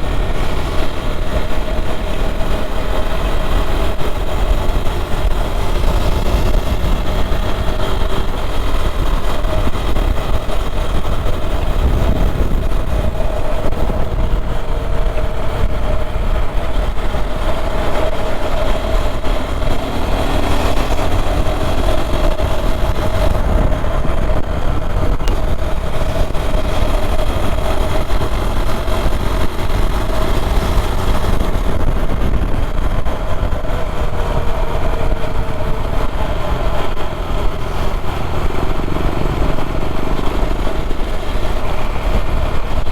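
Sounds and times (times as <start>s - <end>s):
motorcycle engine running: 0.0s - 42.9s
wind rush on microphone: 0.0s - 42.9s.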